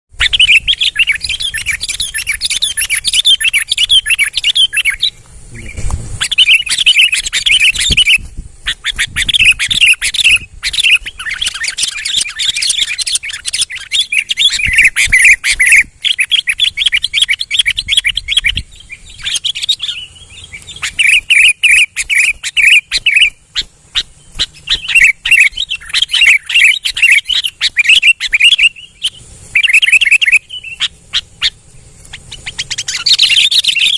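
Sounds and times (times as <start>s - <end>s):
bird chirping song: 0.1s - 33.9s.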